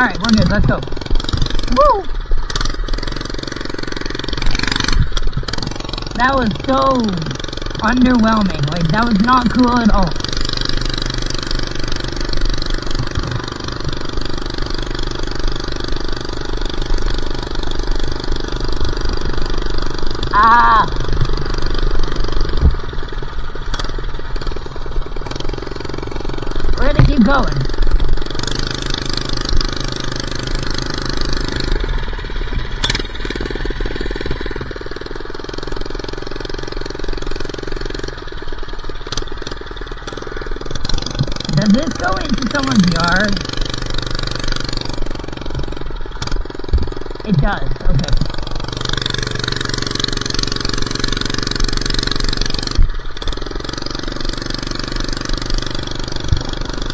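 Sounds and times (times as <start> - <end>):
minibike engine running: 0.0 - 56.9.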